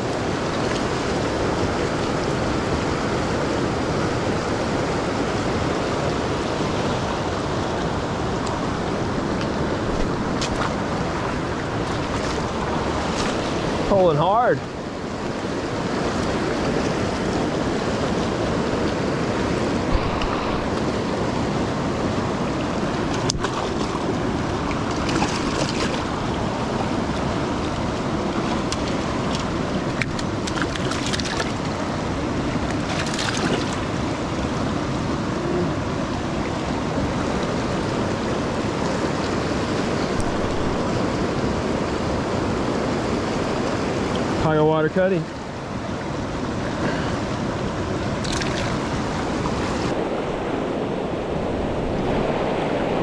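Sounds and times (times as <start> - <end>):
river rushing over boulders: 0.0 - 53.0.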